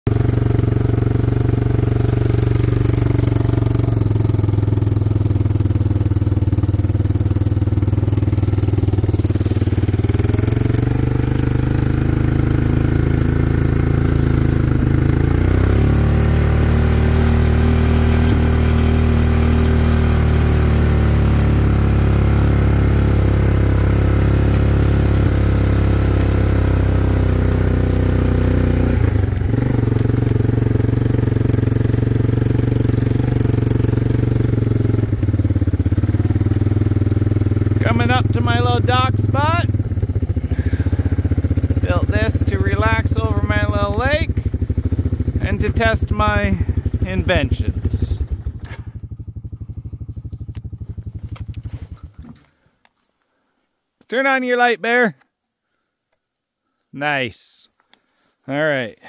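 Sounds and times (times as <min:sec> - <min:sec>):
small vehicle engine running: 0:00.1 - 0:52.6.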